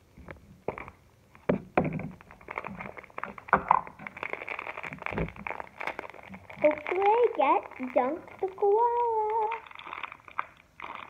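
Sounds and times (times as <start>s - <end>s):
foil wrapper crinkling: 2.0s - 11.0s.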